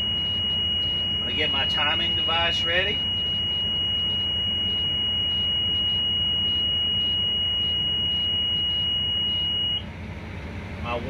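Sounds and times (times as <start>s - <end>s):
high-pitched warning buzzer: 0.0s - 9.8s.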